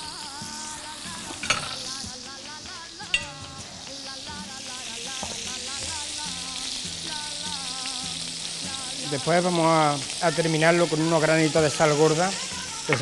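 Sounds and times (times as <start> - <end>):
background music: 0.0 - 13.0
food sizzling in oil: 0.0 - 13.0.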